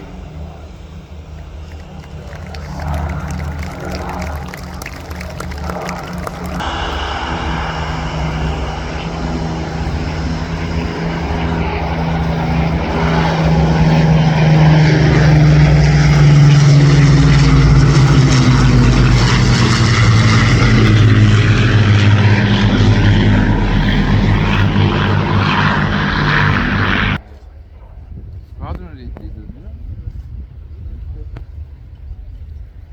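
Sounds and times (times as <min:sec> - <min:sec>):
propeller aircraft engine drone: 0:00.0 - 0:27.5.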